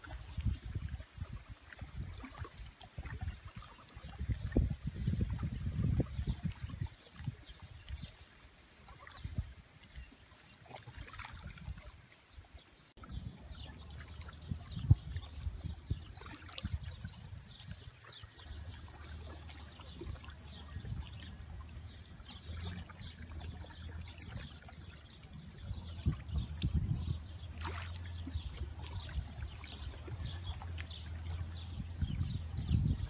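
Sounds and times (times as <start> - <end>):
small waves lapping on shore: 0.0 - 33.0.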